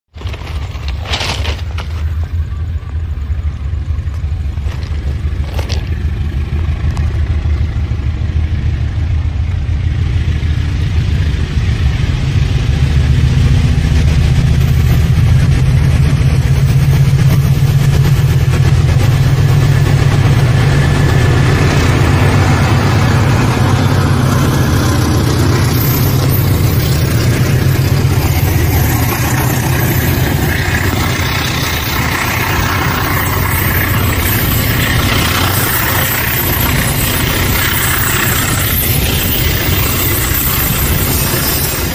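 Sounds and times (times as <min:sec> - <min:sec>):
locomotive engine drone: 0:00.1 - 0:41.9
train wheels on rails: 0:00.1 - 0:41.9.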